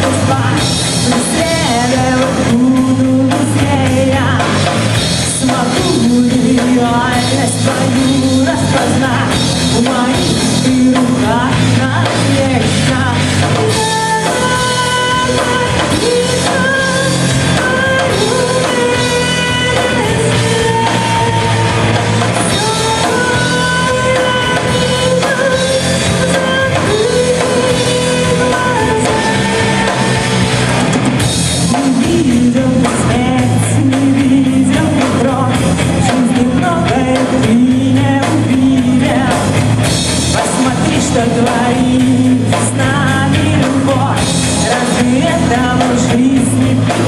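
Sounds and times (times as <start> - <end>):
lead melody: 0.0 - 42.9
rock band playing live: 0.0 - 47.0.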